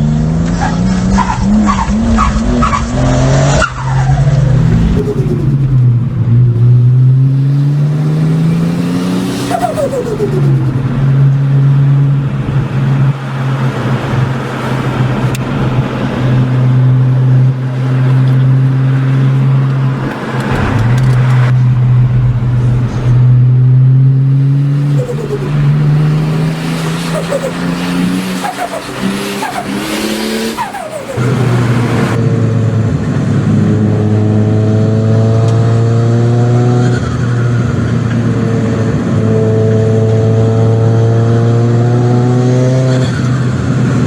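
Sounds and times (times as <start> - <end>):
car engine accelerating hard: 0.0 - 44.0.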